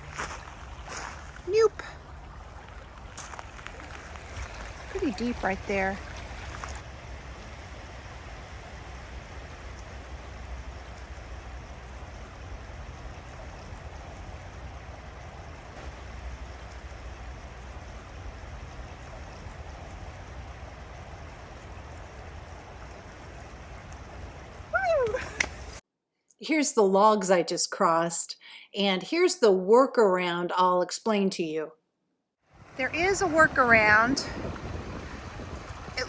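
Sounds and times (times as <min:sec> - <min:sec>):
creek water rushing: 0:00.0 - 0:25.8, 0:32.5 - 0:36.0
low rumble: 0:00.0 - 0:25.8, 0:32.6 - 0:36.0.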